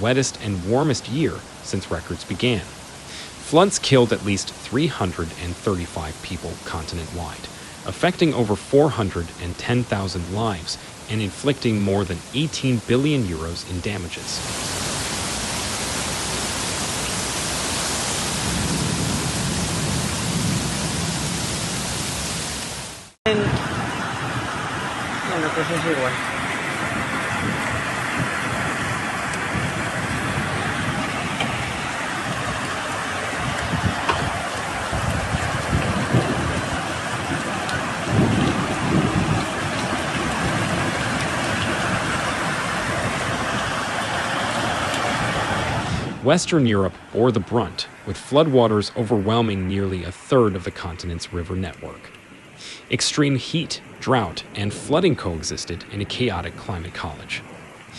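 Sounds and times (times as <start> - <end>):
heavy rain downpour: 0.0 - 57.9
storm water rushing: 0.0 - 57.9.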